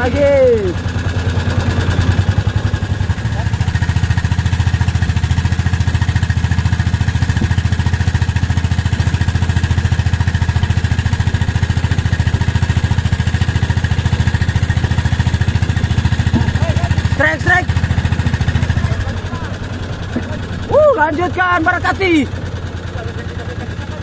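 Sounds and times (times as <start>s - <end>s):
boat motor chugging: 0.0s - 24.0s.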